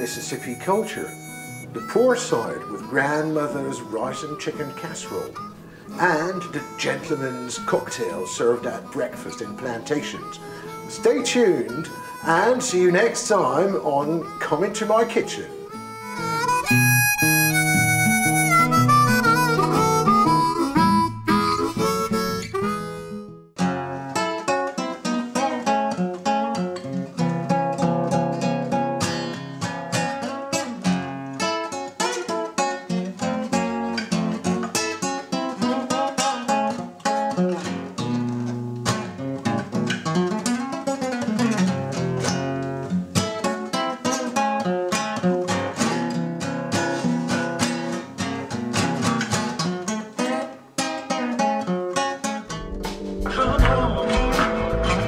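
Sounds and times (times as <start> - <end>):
blues music with harmonica: 0.0 - 55.0
solo classical guitar: 0.0 - 55.0.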